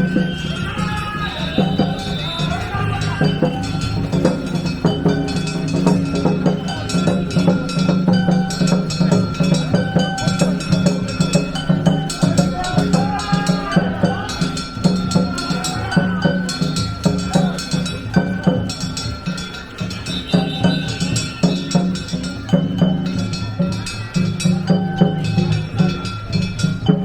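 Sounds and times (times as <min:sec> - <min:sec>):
drums: 0:00.0 - 0:27.0
fast struck percussion beats: 0:00.0 - 0:27.0
high wavering melody: 0:00.0 - 0:27.0.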